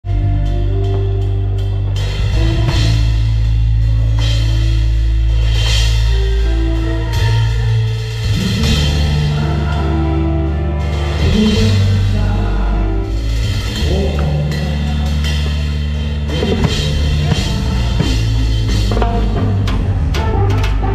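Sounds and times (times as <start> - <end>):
salsa band playing: 0.0 - 20.9.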